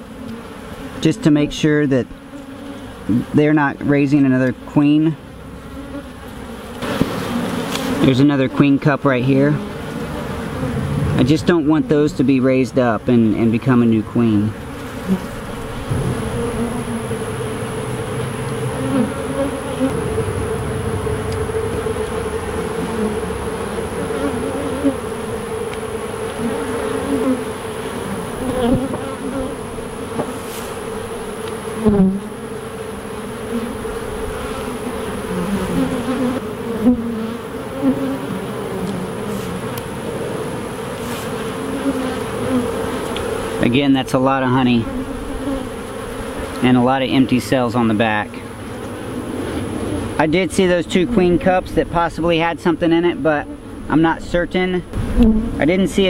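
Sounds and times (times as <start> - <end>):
bees flying close by: 0.0 - 56.0
honey bees buzzing: 0.0 - 56.0.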